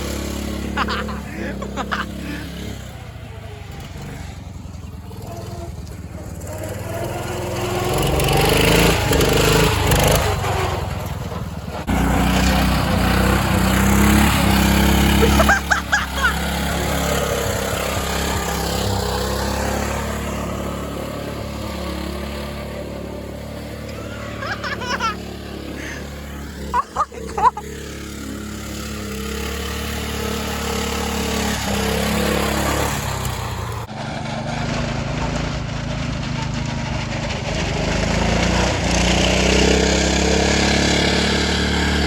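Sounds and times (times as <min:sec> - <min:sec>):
garden tractor engine running: 0:00.0 - 0:42.0.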